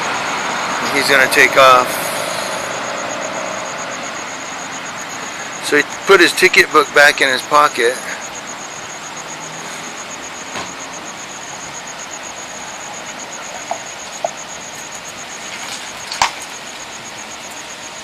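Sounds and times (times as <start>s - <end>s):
faint high pulsing tone: 0.0s - 18.0s
street background hiss: 0.0s - 18.0s.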